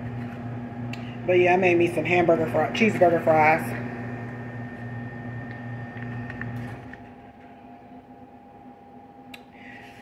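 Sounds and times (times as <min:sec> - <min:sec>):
kitchen appliance humming: 0:00.0 - 0:10.0.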